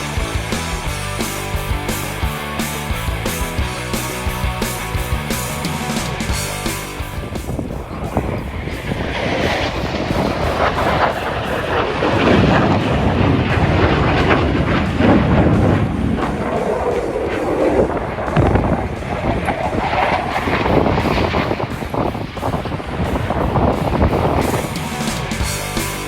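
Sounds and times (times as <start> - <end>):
jet aircraft roaring: 0.0 - 26.0.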